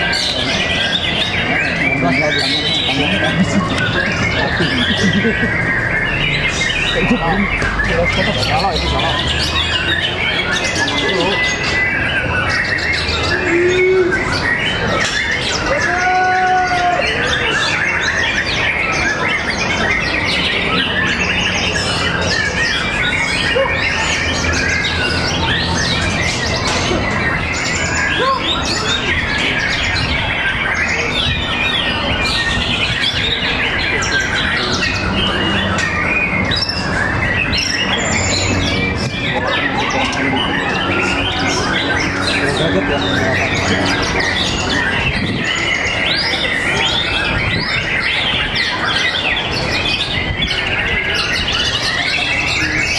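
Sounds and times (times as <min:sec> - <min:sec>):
chorus of songbirds singing: 0:00.0 - 0:52.9.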